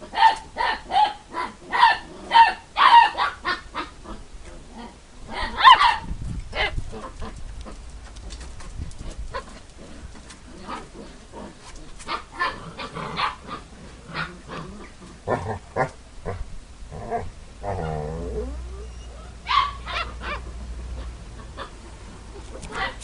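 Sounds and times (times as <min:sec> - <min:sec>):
puppies growling and yapping: 0:00.1 - 0:05.7, 0:06.6 - 0:23.0.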